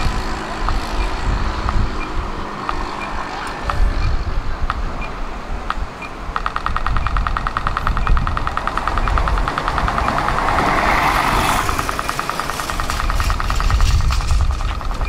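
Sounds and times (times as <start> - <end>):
bus passing by: 0.0 - 6.4, 7.9 - 15.0
low traffic rumble: 0.0 - 15.0
rapid steady ticking: 0.0 - 15.0.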